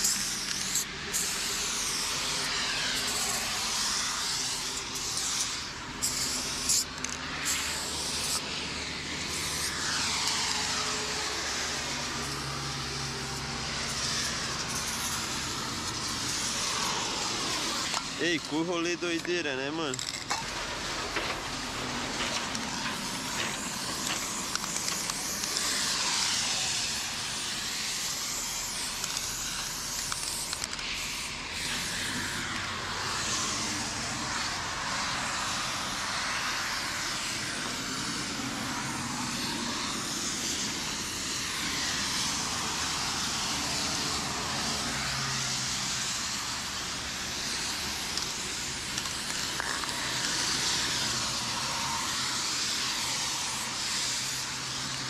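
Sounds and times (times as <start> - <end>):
spray paint can hissing: 0.0 - 55.0.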